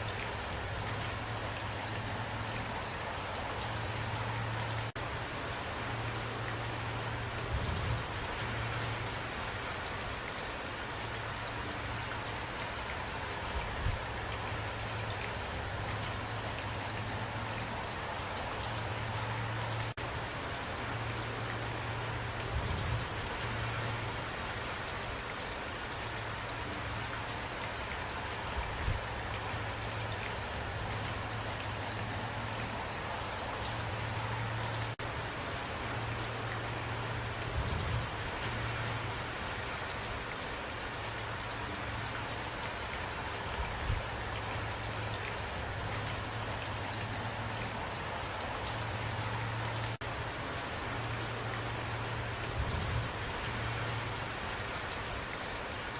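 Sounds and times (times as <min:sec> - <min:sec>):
rain patter: 0:00.0 - 0:55.9.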